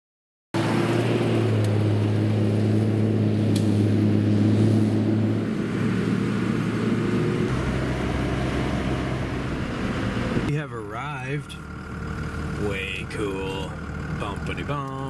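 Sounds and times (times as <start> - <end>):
truck engine drone: 0.6 - 15.0
tyre and road noise: 0.6 - 15.0.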